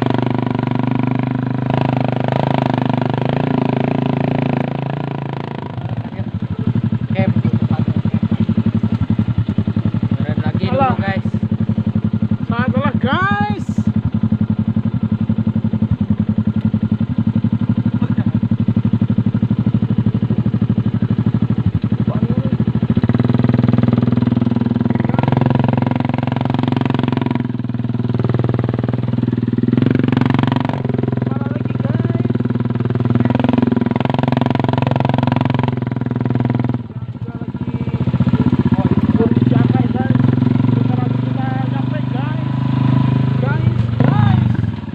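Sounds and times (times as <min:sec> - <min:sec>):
motorcycle engine under load: 0:00.0 - 0:44.9.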